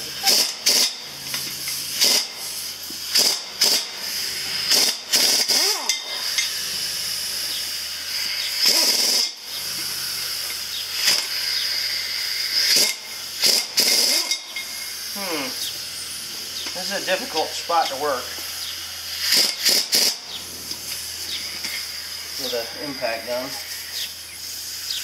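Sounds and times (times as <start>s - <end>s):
compressed air hissing: 0.0s - 25.0s
impact wrench bursts: 0.0s - 25.0s.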